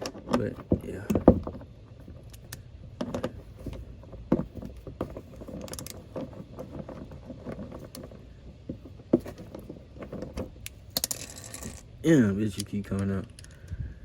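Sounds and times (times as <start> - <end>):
hand tools and car parts clicking: 0.0 - 13.8
low steady rumble: 0.0 - 14.0.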